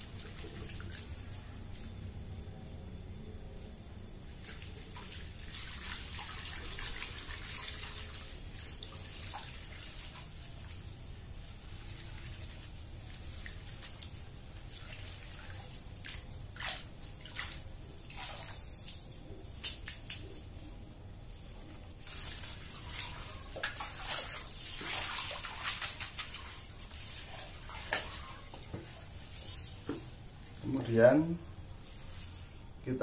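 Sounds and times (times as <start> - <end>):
water sloshing and splashing: 0.0 - 2.0, 4.3 - 20.5, 21.8 - 30.7.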